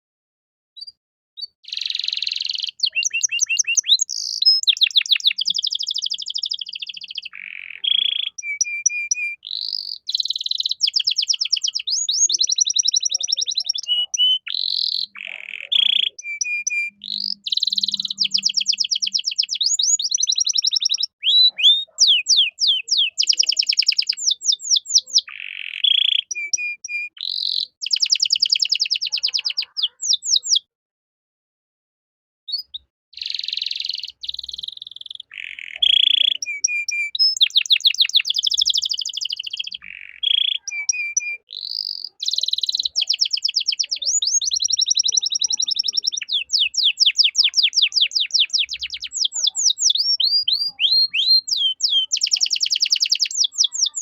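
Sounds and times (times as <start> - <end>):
canary singing trills: 0.8 - 30.7, 32.5 - 54.0.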